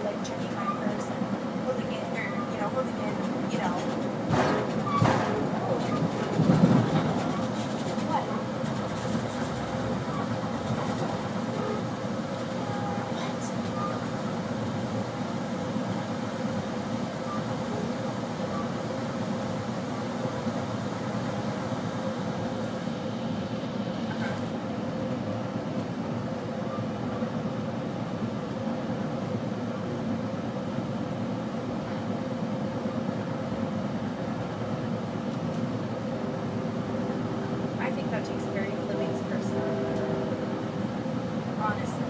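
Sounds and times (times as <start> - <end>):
train wheels rumbling on rails: 0.0 - 42.0.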